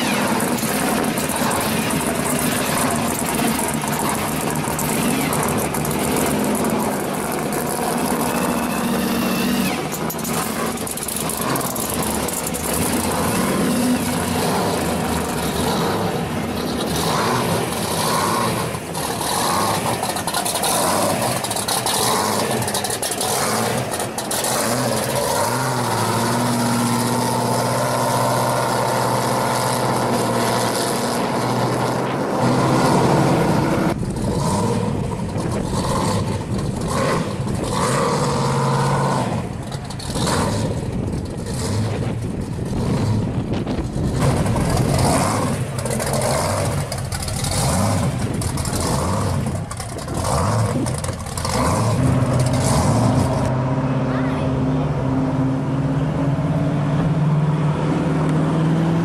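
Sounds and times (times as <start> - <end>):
car engines idling and revving: 0.0 - 59.0.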